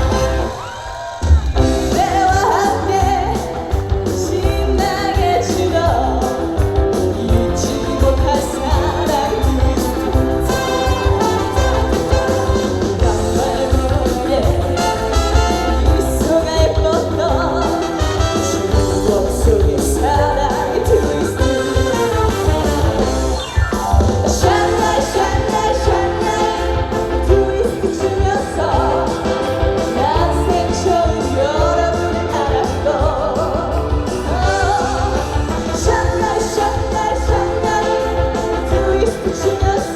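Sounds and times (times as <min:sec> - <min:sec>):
amplified backing music with beat: 0:00.0 - 0:39.9
woman singing through pa: 0:01.6 - 0:22.4, 0:24.4 - 0:39.9.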